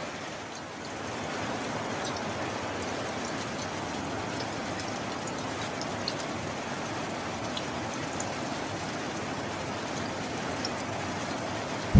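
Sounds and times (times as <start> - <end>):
raindrop ticks: 0.0 - 1.1, 1.9 - 11.9
steady rain: 0.0 - 11.9.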